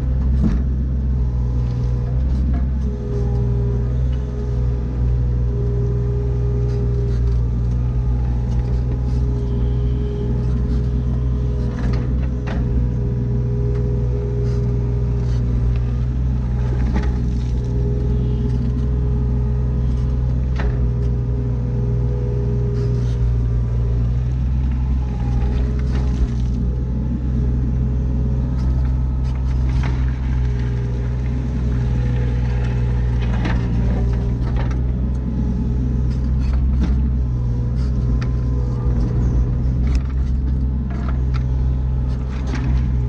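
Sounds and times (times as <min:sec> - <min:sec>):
excavator diesel engine running: 0:00.0 - 0:43.0
steady whine: 0:00.0 - 0:43.0.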